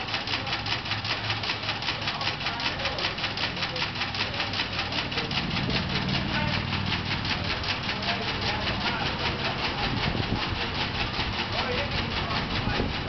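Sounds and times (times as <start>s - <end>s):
electric motor running: 0.0s - 13.0s
rapid even clicking: 0.0s - 13.0s
water gushing into a plastic tub: 0.0s - 13.0s.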